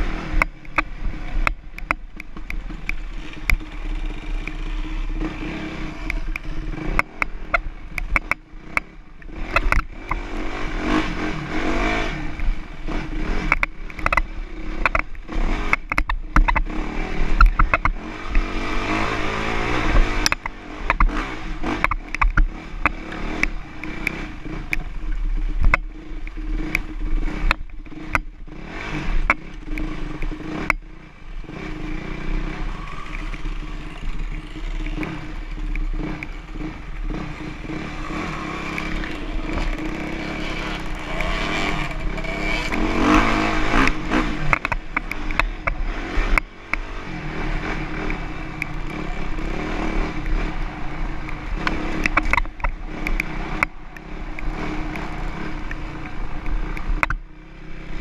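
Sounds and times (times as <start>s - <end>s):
dirt bike engine revving: 0.0s - 58.0s
sharp clicks and knocks: 0.2s - 10.3s, 12.3s - 30.9s, 32.9s - 58.0s.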